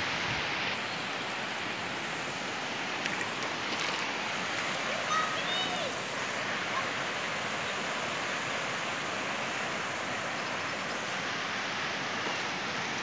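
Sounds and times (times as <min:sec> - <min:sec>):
river water rushing over rock: 0:00.0 - 0:13.0.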